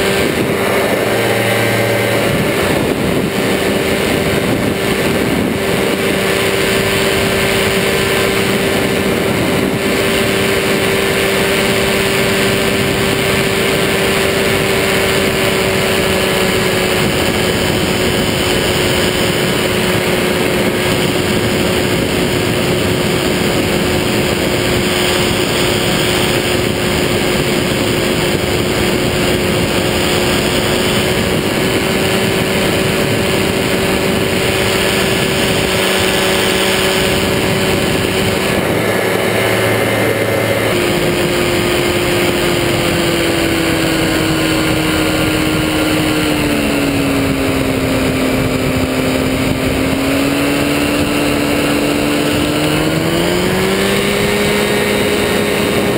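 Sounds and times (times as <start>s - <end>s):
engine and propeller droning: 0.0s - 55.9s
wind rushing over camera: 0.0s - 55.9s.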